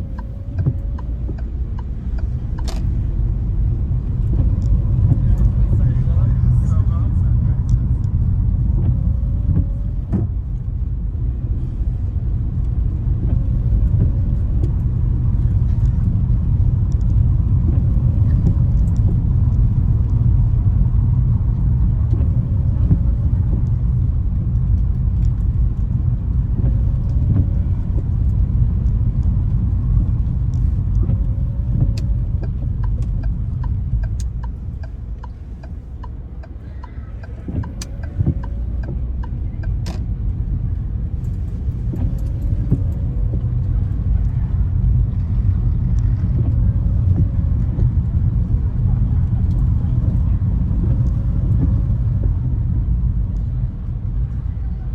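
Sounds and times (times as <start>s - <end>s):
turn signal ticking: 0.0s - 54.5s
car driving on wet road: 0.0s - 54.9s.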